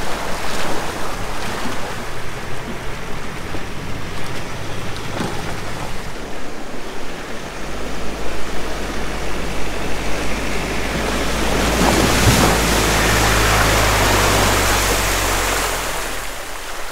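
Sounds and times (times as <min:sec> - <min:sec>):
diesel truck engine running: 0:00.0 - 0:16.9
water rushing and splashing: 0:00.0 - 0:16.9.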